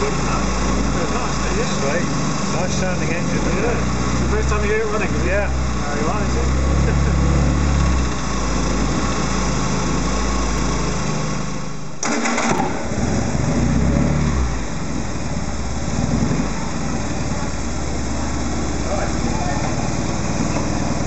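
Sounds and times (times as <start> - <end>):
engine running unevenly: 0.0 - 21.0.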